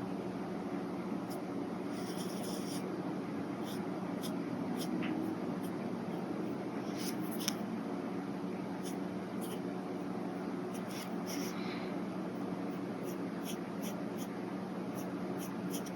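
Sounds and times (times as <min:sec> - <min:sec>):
low background hum: 0:00.0 - 0:15.9.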